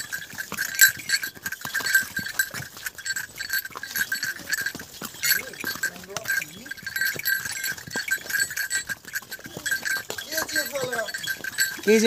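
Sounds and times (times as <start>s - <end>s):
harness bells jingling: 0.0s - 12.0s
hooves on stone path: 0.0s - 12.0s.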